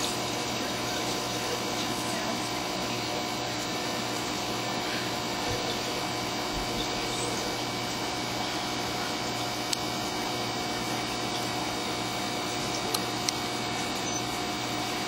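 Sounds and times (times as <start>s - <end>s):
aquarium equipment humming: 0.0s - 15.0s.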